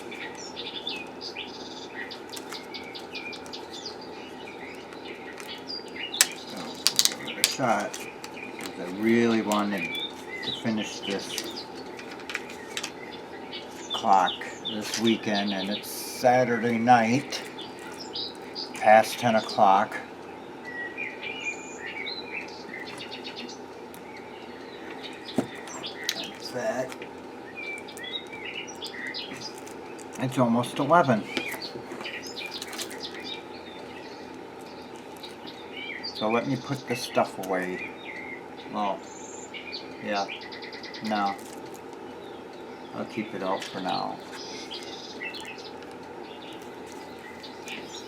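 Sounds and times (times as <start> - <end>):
low background hum: 0.0 - 48.0
small bird chirping: 0.0 - 48.0
steady low hiss: 0.0 - 48.0.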